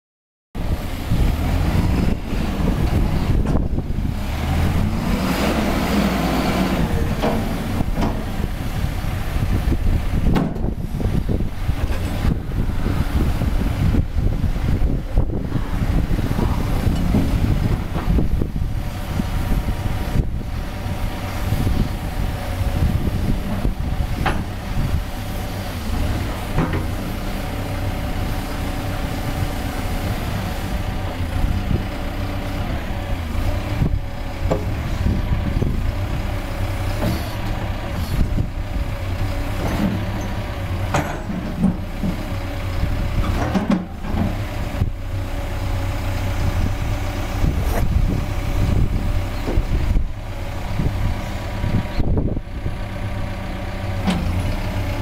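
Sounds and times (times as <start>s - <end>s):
diesel engine running: 0.6s - 55.0s.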